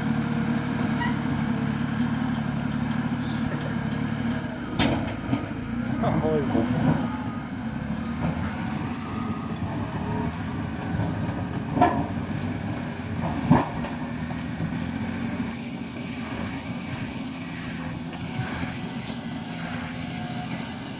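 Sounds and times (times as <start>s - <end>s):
bulldozer diesel engine running: 0.0s - 20.9s.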